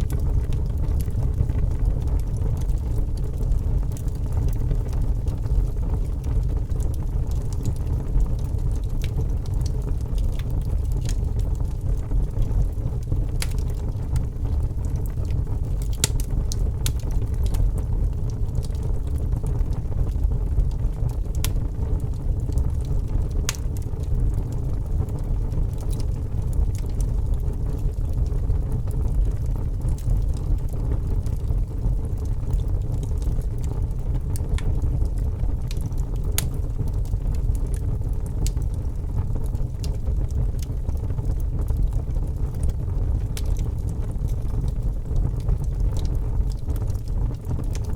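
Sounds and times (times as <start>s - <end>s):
low rumble of flames: 0.0s - 47.9s
wood crackling and popping: 0.0s - 47.9s.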